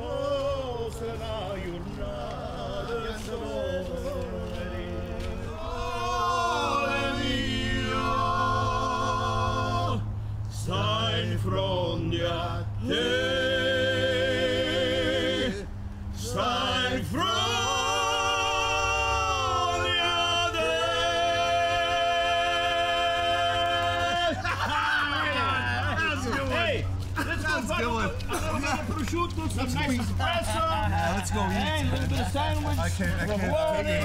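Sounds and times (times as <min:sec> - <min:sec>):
men singing held notes: 0:00.0 - 0:34.0.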